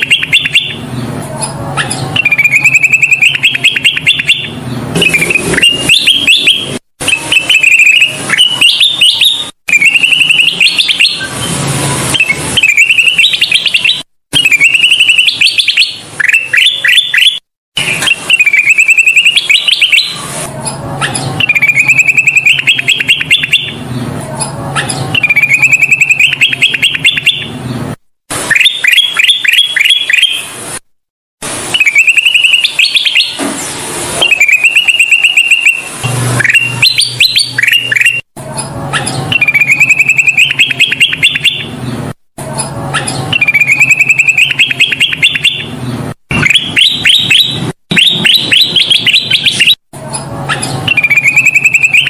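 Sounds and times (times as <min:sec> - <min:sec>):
bulbul singing: 0:00.0 - 0:27.7, 0:31.7 - 0:33.4, 0:34.2 - 0:42.0, 0:42.6 - 0:52.0.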